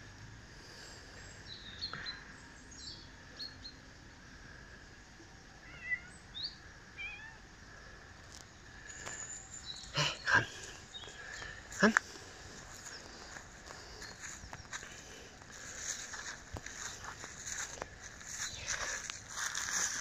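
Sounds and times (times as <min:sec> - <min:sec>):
small birds chirping: 0:00.7 - 0:20.0.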